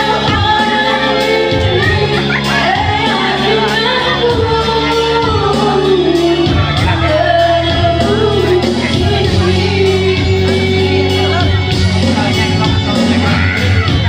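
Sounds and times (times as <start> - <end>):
accompaniment with sustained bass: 0.0 - 14.0
person singing: 0.0 - 14.0.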